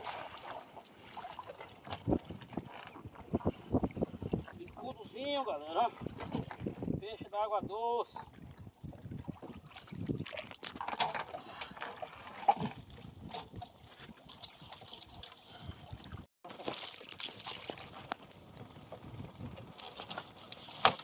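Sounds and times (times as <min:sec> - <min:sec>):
water trickling and sloshing: 0:00.0 - 0:21.0.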